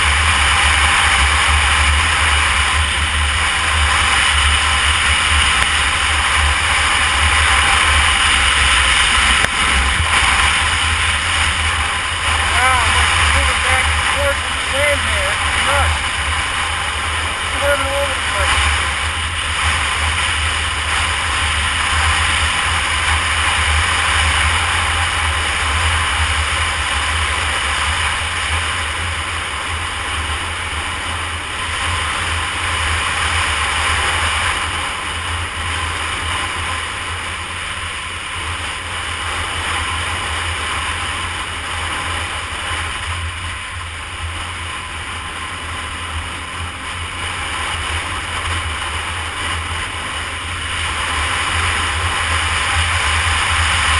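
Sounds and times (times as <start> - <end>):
motorcycle engine running: 0.0 - 53.9
wind buffeting microphone: 0.0 - 53.9.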